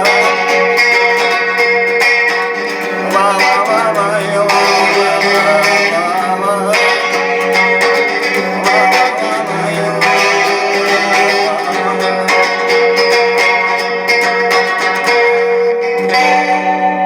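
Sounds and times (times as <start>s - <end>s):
strummed guitar chords: 0.0s - 17.0s.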